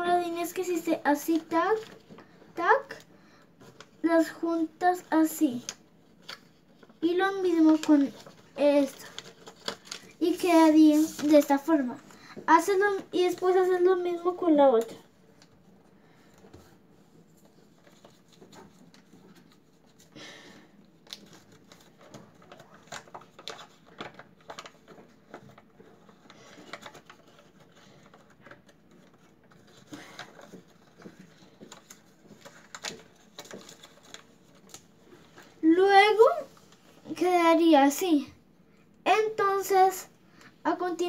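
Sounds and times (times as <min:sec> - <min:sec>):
paper rustling and crinkling: 0:00.2 - 0:37.4.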